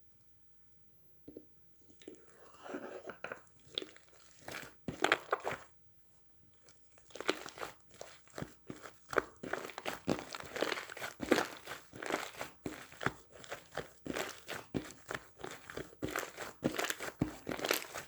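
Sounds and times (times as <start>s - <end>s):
crinkling and crunching: 2.1s - 5.7s, 7.0s - 18.0s.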